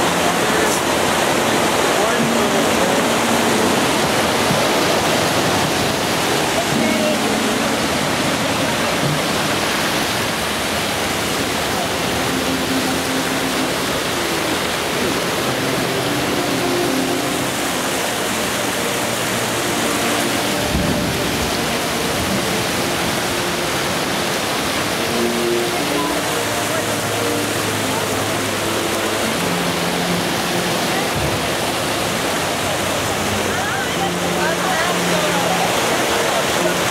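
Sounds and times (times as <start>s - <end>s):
fountain water splashing: 0.0s - 36.9s.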